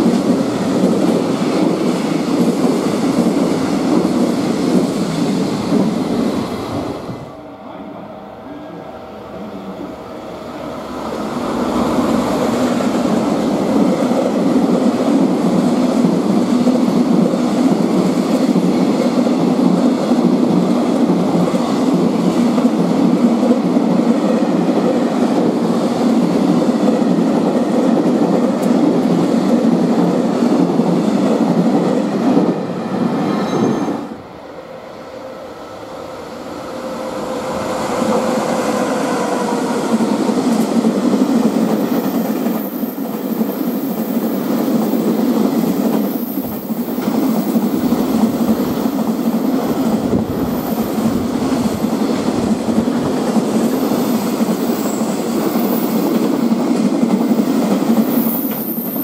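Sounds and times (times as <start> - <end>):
freight train rattling over rail joints: 0.0 - 34.5, 35.6 - 59.0
approaching electric locomotive: 0.0 - 59.0.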